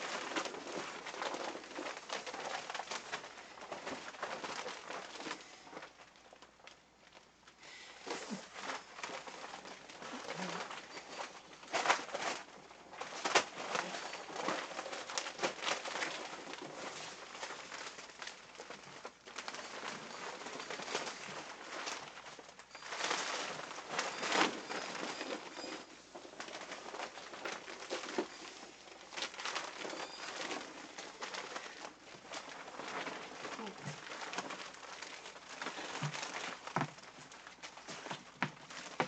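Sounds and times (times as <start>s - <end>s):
plastic poncho rustling: 0.0s - 39.0s.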